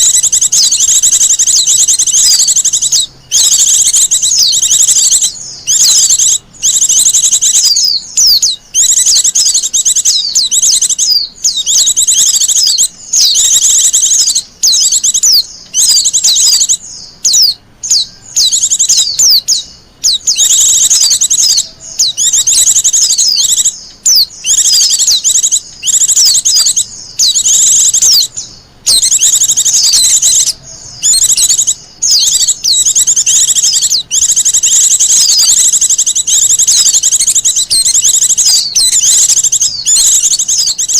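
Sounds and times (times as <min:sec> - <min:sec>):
bird singing high twittering notes: 0:00.0 - 0:40.9.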